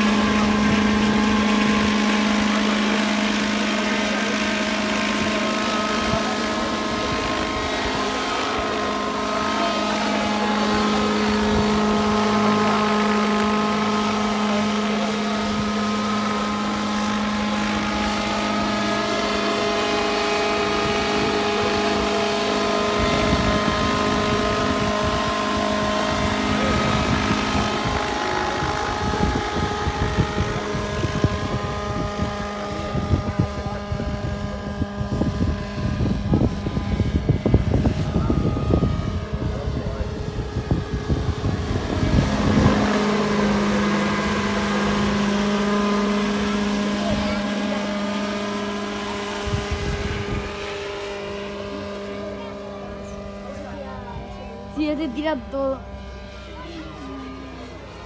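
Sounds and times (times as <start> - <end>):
model helicopter engine running: 0.0 - 58.0.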